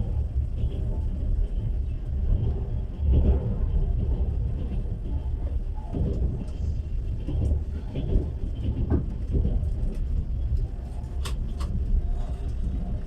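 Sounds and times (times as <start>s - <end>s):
train carriage rumbling: 0.0s - 13.0s.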